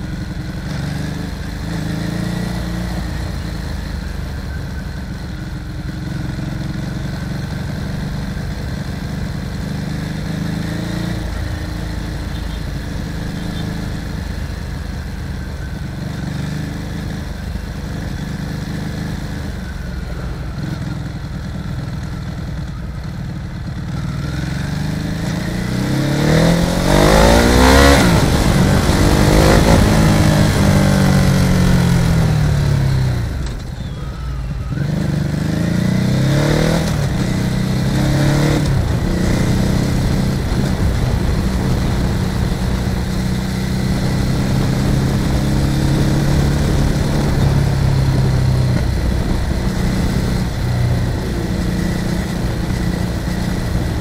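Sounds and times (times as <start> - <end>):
motorcycle engine running: 0.0 - 54.0
road and wind noise: 0.0 - 54.0
vehicles passing close by: 0.0 - 54.0.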